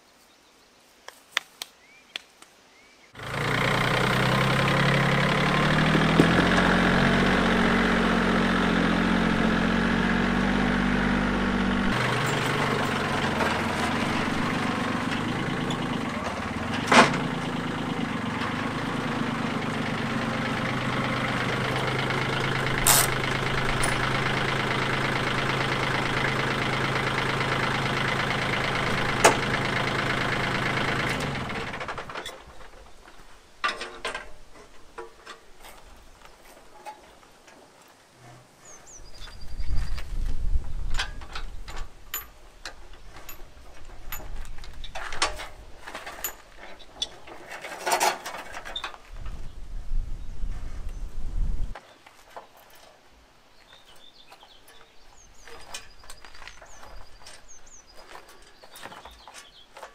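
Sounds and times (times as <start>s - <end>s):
tractor engine idling: 3.2s - 36.0s, 40.2s - 49.5s, 54.0s - 59.9s.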